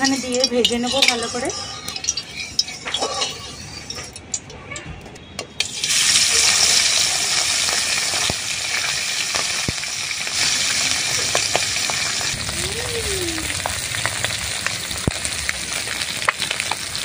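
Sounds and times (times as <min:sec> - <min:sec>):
fish sizzling in hot oil: 0:00.0 - 0:04.4, 0:05.6 - 0:17.0.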